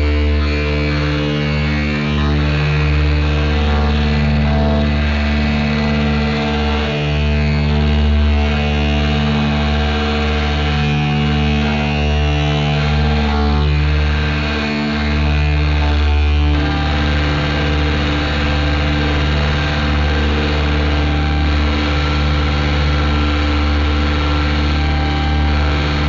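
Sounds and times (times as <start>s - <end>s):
electric guitar feedback drone: 0.0s - 26.0s.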